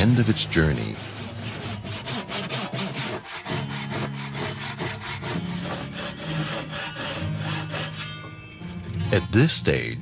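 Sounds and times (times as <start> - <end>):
hand saw rasping through wood: 0.0 - 8.3.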